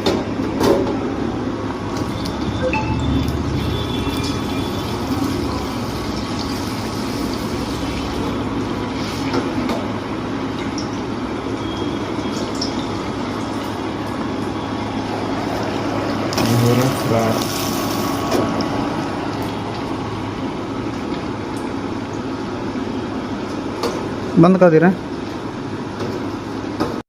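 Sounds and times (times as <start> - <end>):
food deep-frying in hot oil: 1.2 - 27.0.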